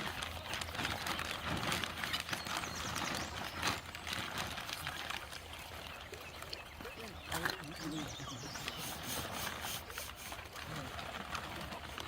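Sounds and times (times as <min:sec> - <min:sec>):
running water with splashes: 0:00.0 - 0:12.0.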